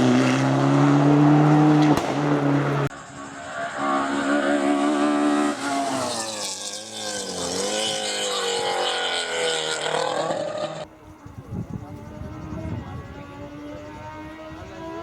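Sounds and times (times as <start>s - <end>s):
race car engine at high revs: 0.0s - 10.9s, 11.8s - 15.0s.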